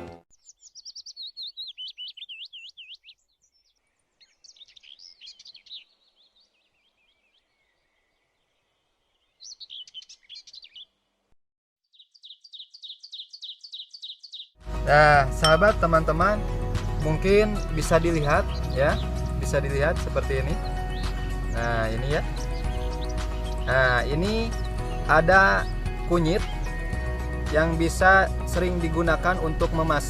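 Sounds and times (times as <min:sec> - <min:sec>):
songbird warbling and chirping: 0:00.3 - 0:11.0, 0:11.8 - 0:14.6, 0:16.9 - 0:28.6.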